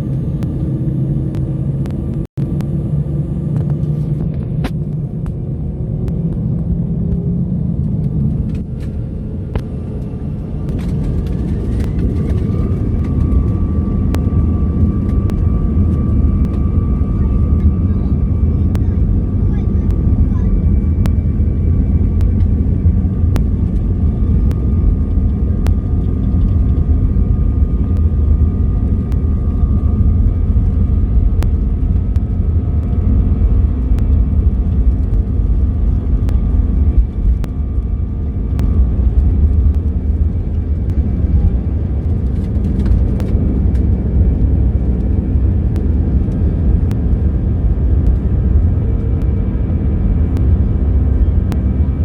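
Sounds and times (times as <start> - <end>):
jet engines rumbling on takeoff: 0.0 - 52.0.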